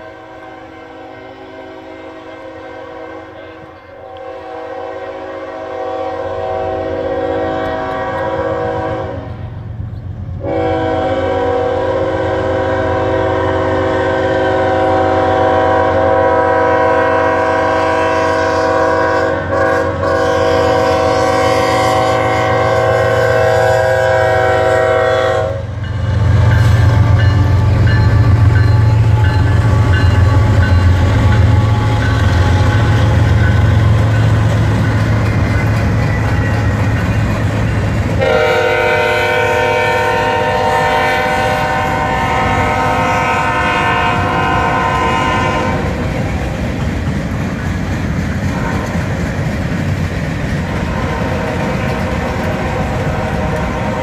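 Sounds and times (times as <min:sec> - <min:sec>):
train air horn blasts: 0:00.0 - 0:09.6, 0:10.4 - 0:35.4, 0:38.2 - 0:46.4, 0:48.5 - 0:49.2, 0:50.8 - 0:54.0
diesel locomotive engine rumbling: 0:00.0 - 0:54.0.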